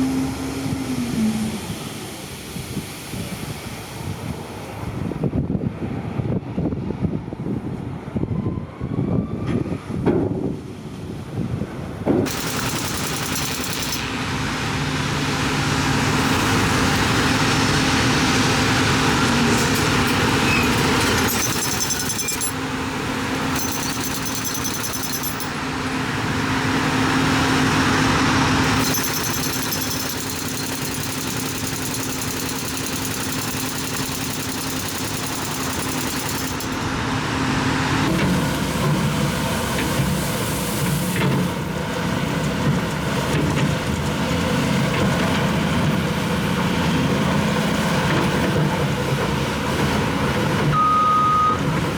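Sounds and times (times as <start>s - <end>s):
construction machinery engine drone: 0.0s - 51.9s.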